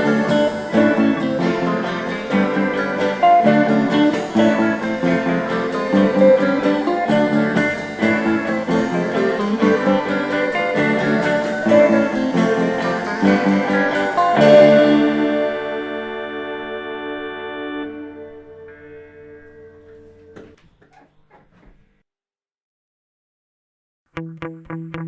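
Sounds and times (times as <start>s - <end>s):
guitar background music: 0.0s - 20.4s, 24.2s - 25.0s.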